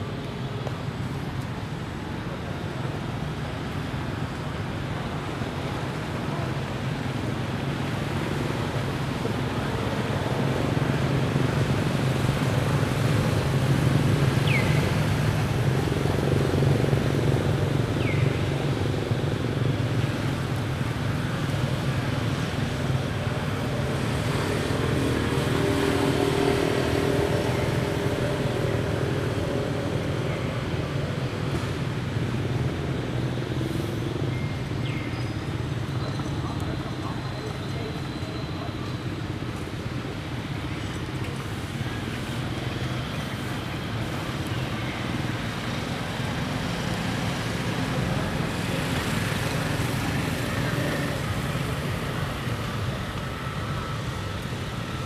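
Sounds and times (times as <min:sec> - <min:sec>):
traffic engines humming: 0:00.0 - 0:55.0.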